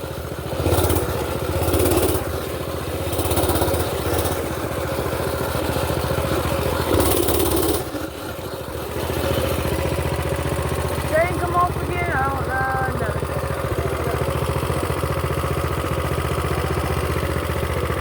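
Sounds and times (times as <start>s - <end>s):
mini-bike engine running: 0.0s - 18.0s.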